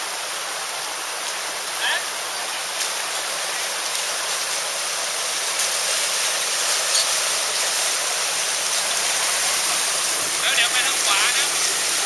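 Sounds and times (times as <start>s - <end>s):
stream pouring over rocks: 0.0s - 12.0s.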